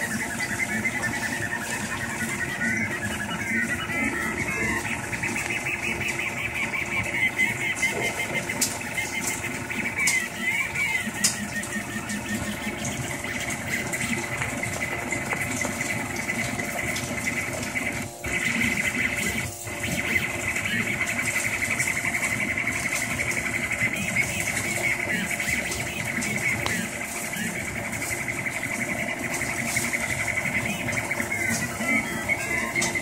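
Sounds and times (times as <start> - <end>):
steady hum: 0.0 - 33.0
stepper motors whining: 0.0 - 33.0.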